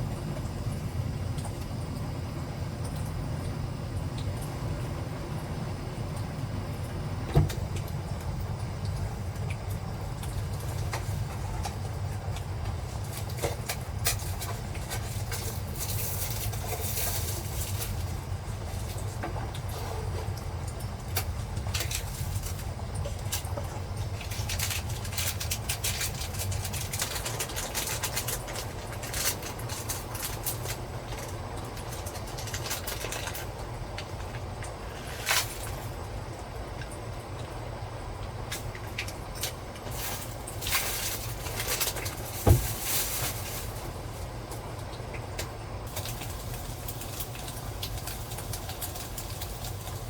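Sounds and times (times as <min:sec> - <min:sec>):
rain tapping on roof: 0:02.8 - 0:50.0.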